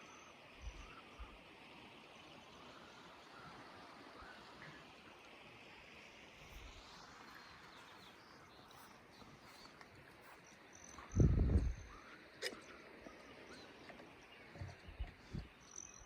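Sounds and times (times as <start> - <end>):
faint outdoor ambience: 0.0 - 16.0.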